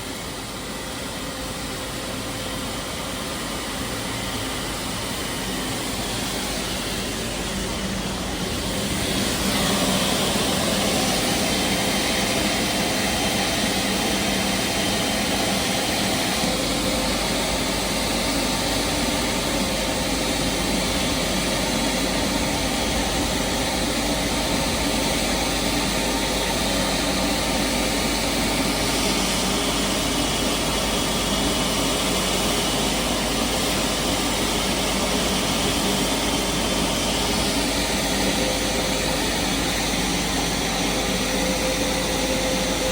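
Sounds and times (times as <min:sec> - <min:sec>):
jet turbines running: 0:00.0 - 0:42.9.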